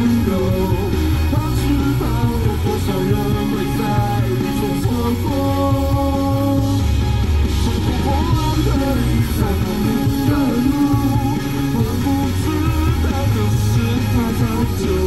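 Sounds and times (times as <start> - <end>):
man singing into a microphone: 0.0 - 6.8, 7.6 - 15.0
rock backing track: 0.0 - 15.0.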